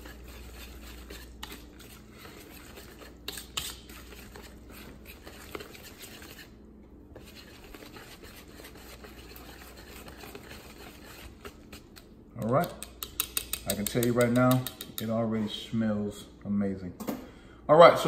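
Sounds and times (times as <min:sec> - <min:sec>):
whisk stirring batter in plastic bowl: 0:00.0 - 0:15.5.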